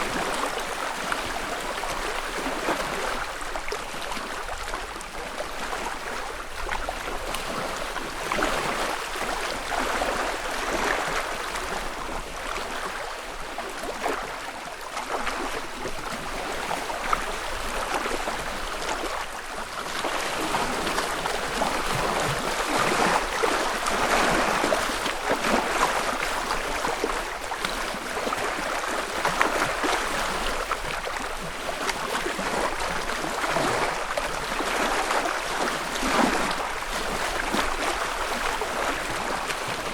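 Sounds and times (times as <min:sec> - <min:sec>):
lake waves lapping shore: 0:00.0 - 0:39.9.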